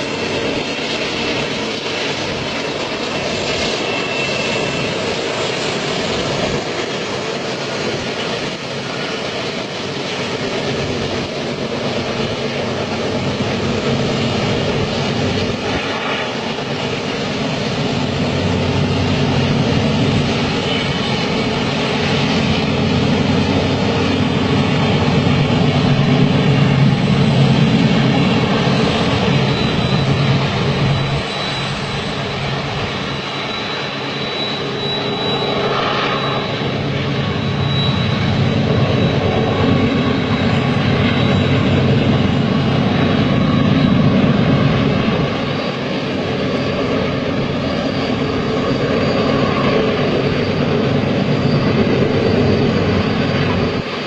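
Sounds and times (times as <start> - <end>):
faint high squeal: 0.0 - 9.6, 13.1 - 54.0
freight train wheels rumbling: 0.0 - 54.0.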